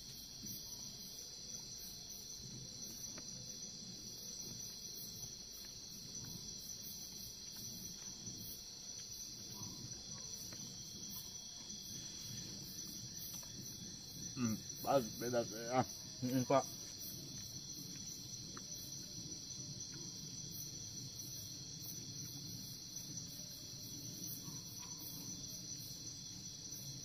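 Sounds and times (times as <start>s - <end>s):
cricket trill: 0.0s - 27.0s.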